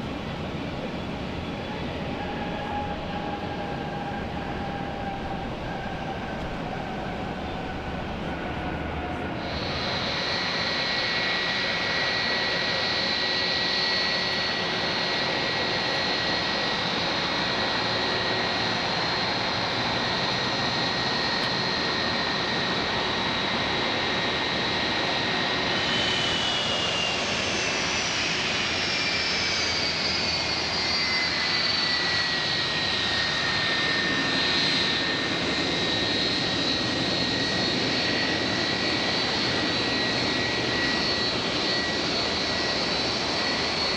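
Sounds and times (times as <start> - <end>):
jet engines whining: 0.0 - 43.9.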